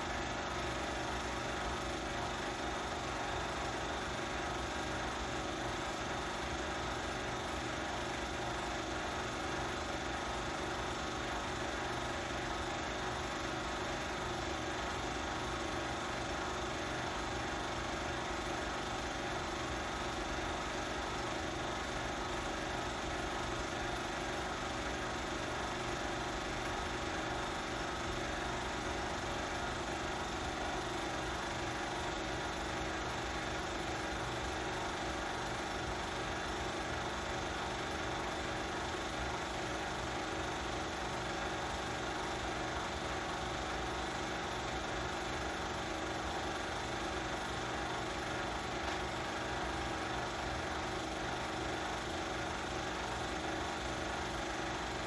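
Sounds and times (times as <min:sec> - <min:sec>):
film projector whirring: 0:00.0 - 0:55.0.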